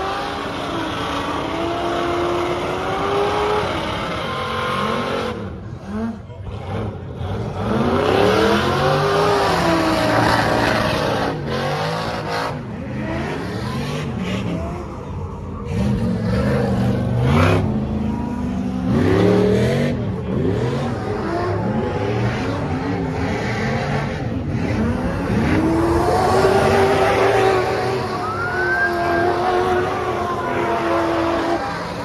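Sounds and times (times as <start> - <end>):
off-road vehicle engines revving: 0.0 - 32.0.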